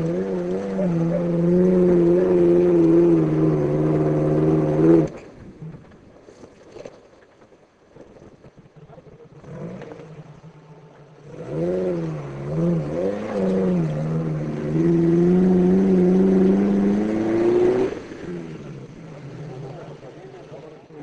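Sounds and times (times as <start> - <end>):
off-road engine revving: 0.0 - 5.9, 8.7 - 21.0.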